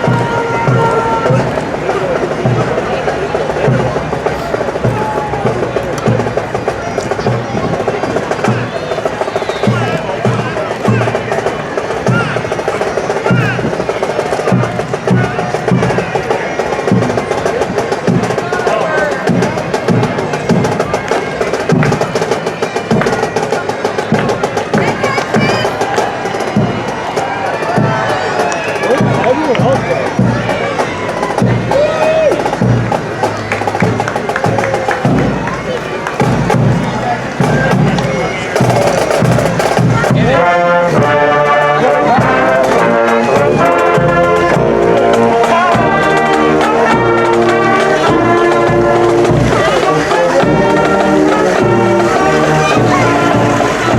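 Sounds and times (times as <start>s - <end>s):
brass band playing: 0.0s - 53.9s
snare drum rolls: 0.0s - 53.9s.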